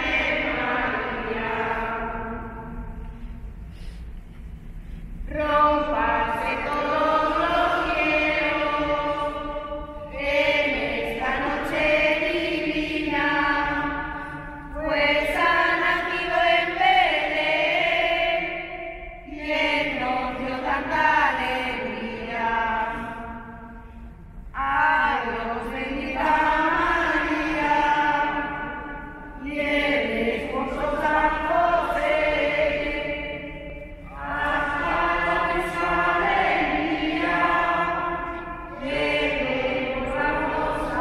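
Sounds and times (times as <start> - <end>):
women singing a carol: 0.0 - 3.0, 5.3 - 23.8, 24.6 - 41.0.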